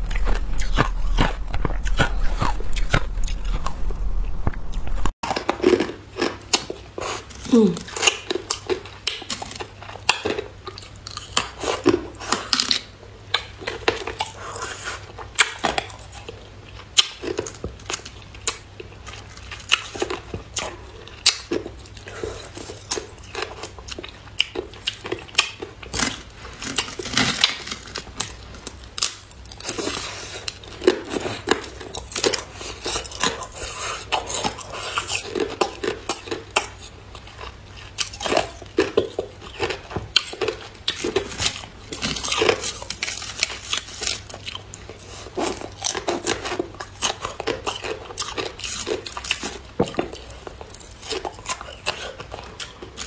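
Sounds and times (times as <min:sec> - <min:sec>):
ice crunching between teeth: 0:00.0 - 0:16.3, 0:17.0 - 0:53.0.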